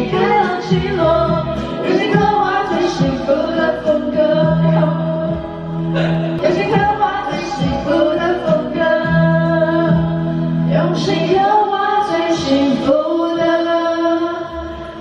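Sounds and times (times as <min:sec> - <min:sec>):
karaoke backing track: 0:00.0 - 0:15.0
women singing into microphones: 0:00.0 - 0:15.0.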